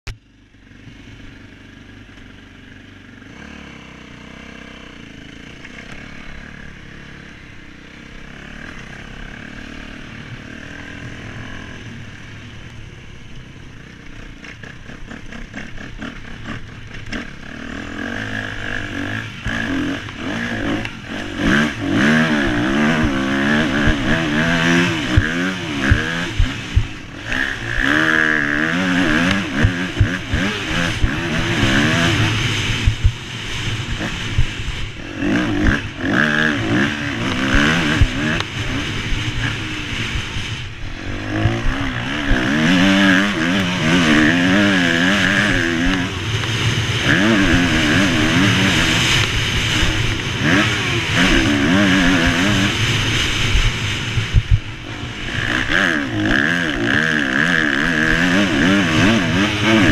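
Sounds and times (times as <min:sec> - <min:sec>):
motocross bike engines revving: 0:00.3 - 0:59.9.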